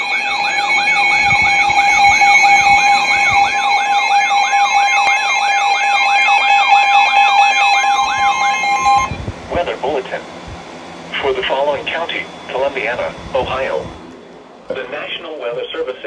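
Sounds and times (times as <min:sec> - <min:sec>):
siren-like sweeping tone: 0:00.0 - 0:14.5
steady alert tone: 0:00.0 - 0:15.2.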